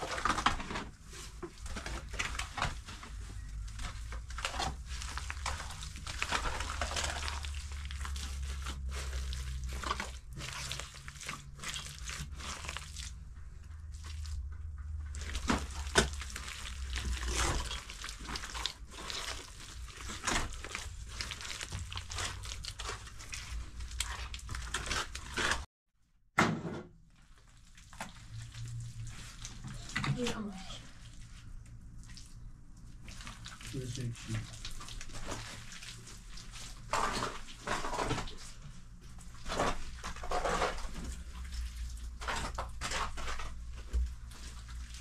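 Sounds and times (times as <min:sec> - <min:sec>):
wet plaster scraping and smearing: 0:00.0 - 0:25.7, 0:27.1 - 0:45.0.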